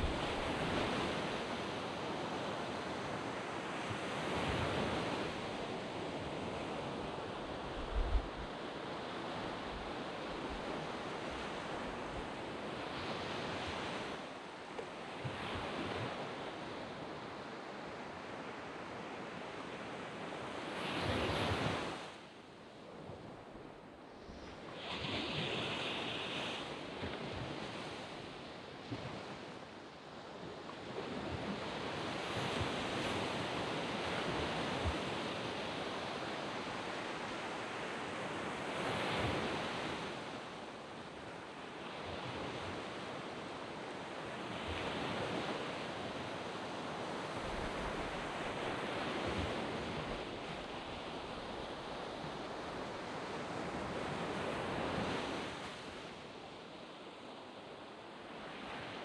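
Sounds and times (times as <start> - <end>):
waves washing onto sand: 0.0 - 22.3, 24.4 - 59.0.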